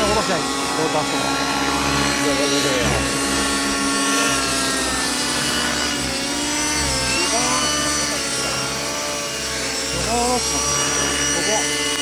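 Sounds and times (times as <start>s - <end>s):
model helicopter engine buzzing: 0.0s - 12.0s.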